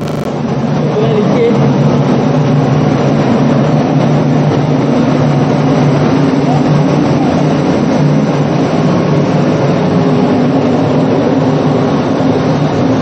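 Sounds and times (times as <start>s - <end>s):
loud mechanical hum: 0.0s - 13.0s.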